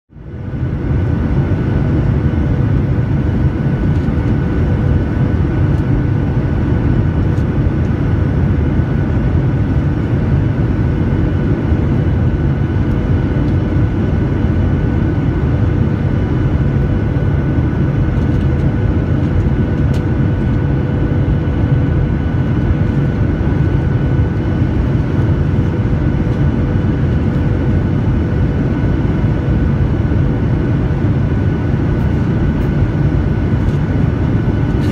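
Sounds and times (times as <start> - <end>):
airliner cabin engine rumble: 0.1 - 34.9.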